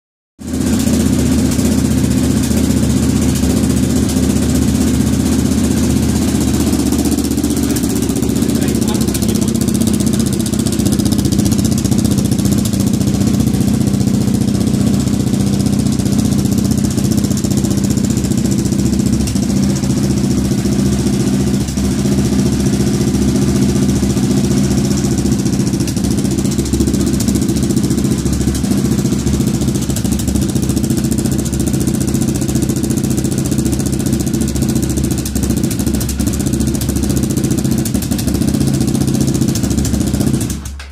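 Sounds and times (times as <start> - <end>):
motorcycle engine idling: 0.4 - 40.9.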